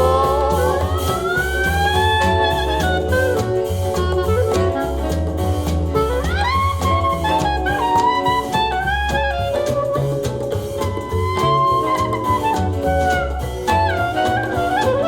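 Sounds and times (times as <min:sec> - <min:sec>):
bass and drum beat: 0:00.0 - 0:15.0.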